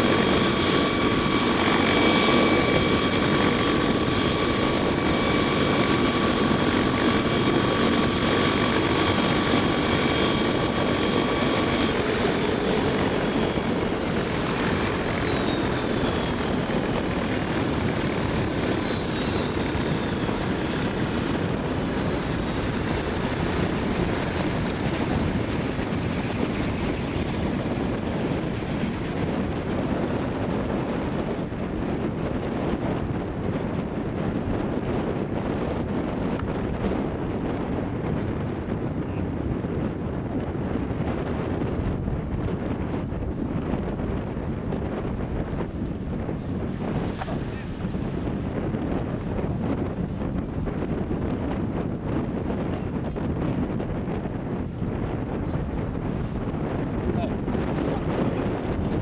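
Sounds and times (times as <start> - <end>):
helicopter rotor rumble: 0.0 - 59.0
turbine engine whine: 0.0 - 59.0.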